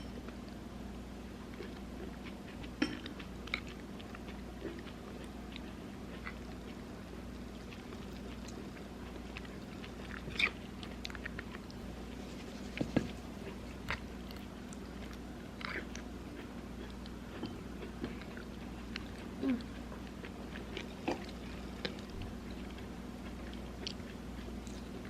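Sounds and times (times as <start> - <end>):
steady low hum: 0.0 - 25.0
person chewing and crunching food: 1.5 - 25.0.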